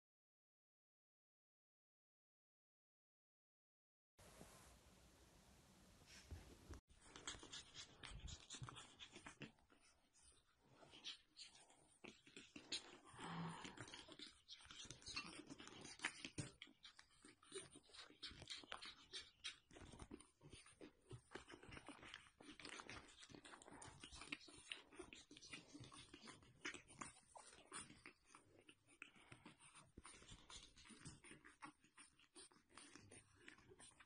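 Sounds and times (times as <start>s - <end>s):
puppies rustling on blanket: 6.0s - 34.0s.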